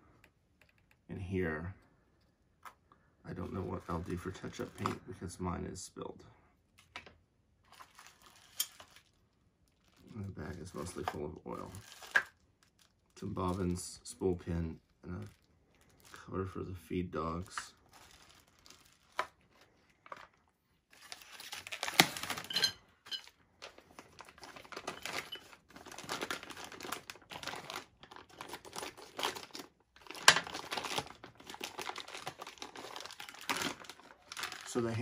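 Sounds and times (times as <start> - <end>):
plastic bags crinkling: 3.3 - 5.1, 7.6 - 16.5, 17.3 - 35.0.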